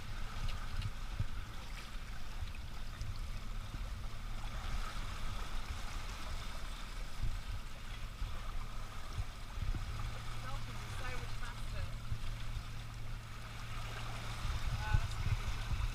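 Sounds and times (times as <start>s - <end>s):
low engine hum: 0.0s - 15.9s
water rushing along hull: 0.0s - 15.9s.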